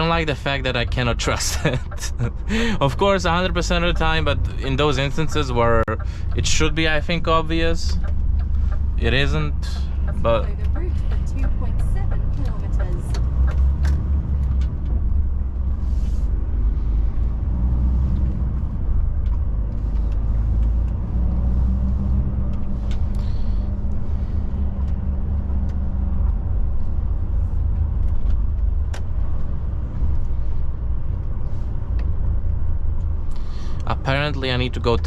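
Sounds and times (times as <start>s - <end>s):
truck engine and road rumble: 0.0s - 35.0s.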